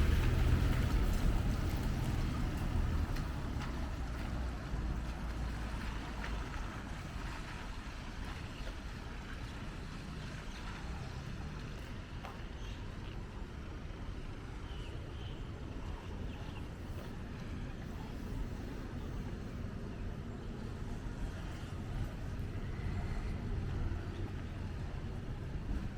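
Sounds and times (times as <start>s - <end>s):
low traffic rumble: 0.0s - 25.9s.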